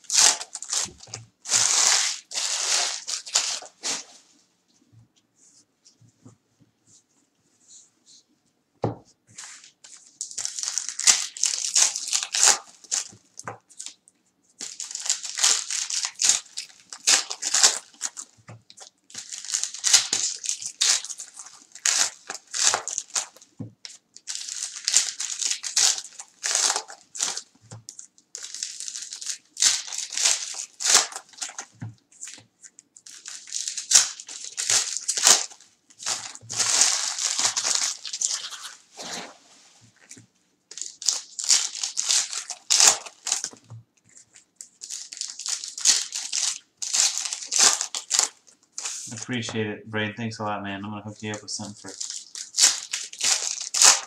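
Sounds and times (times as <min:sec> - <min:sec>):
foil packs crinkling: 0:00.0 - 0:04.1, 0:09.4 - 0:14.0, 0:14.6 - 0:49.4, 0:51.2 - 0:54.0.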